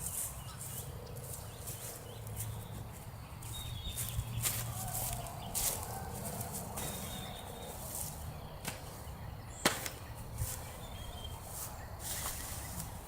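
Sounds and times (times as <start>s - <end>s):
brush rustling: 0.0s - 13.0s.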